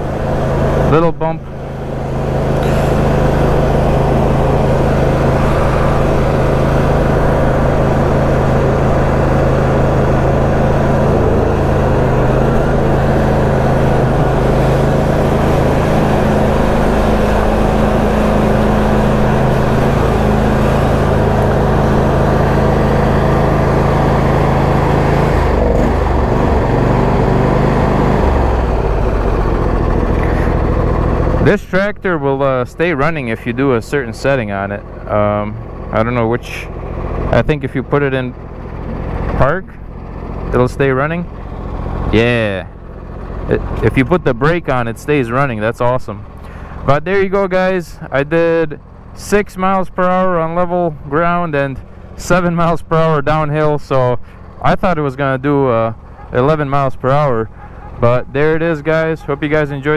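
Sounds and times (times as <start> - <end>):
lawn tractor engine running: 0.0 - 59.9.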